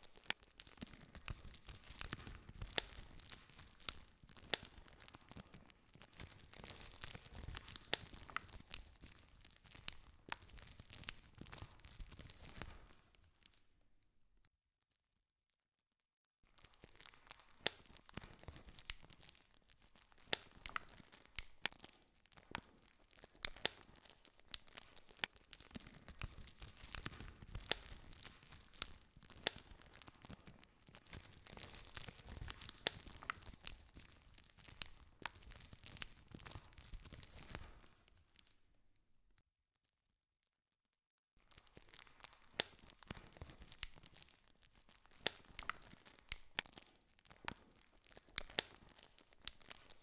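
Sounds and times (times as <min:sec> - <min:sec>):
campfire crackling and popping: 0:00.0 - 0:13.5, 0:16.6 - 0:38.5, 0:41.4 - 0:50.0.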